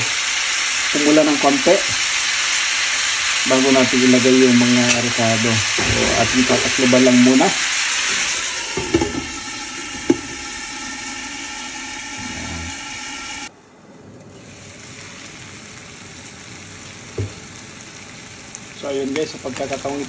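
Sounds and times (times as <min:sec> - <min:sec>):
meat sizzling in oil: 0:00.0 - 0:13.5, 0:14.4 - 0:20.0.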